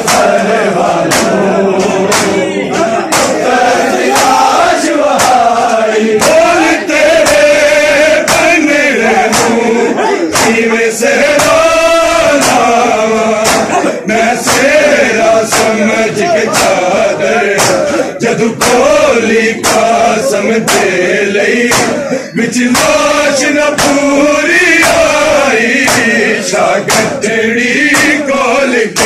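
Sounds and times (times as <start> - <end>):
hands slapping bare chests: 0.0 - 22.0, 22.6 - 24.2, 24.8 - 28.3
men's chorus chanting a lament: 0.0 - 29.0.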